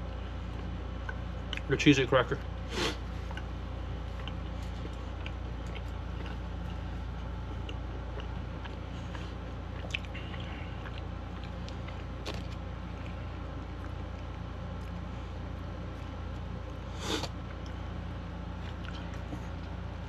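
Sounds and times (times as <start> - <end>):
chewing with crunches: 0.0 - 20.0
steady low hum: 0.0 - 20.0.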